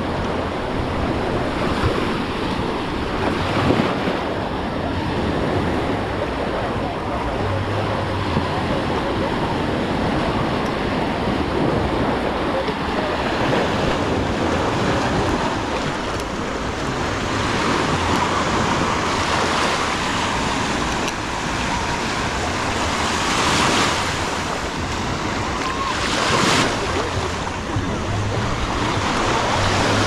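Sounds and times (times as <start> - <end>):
waves washing onto beach: 0.0 - 30.0
wind rumbling on microphone: 0.0 - 30.0.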